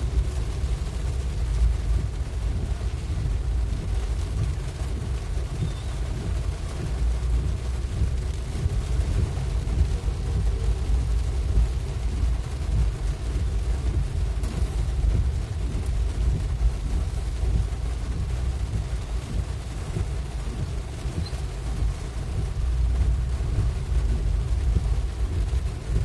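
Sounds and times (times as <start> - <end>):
heavy rain: 0.0 - 26.0
road noise rumble: 0.0 - 26.0.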